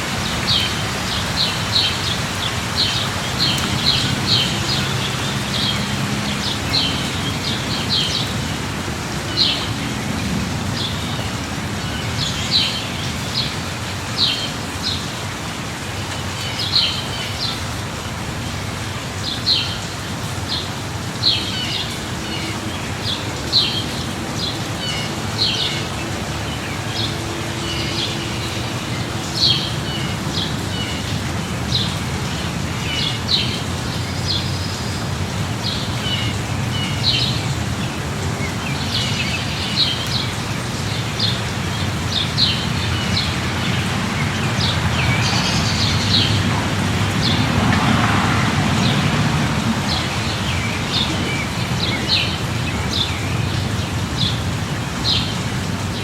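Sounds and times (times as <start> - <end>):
light rain: 0.0 - 56.0
birds chirping: 0.2 - 56.0.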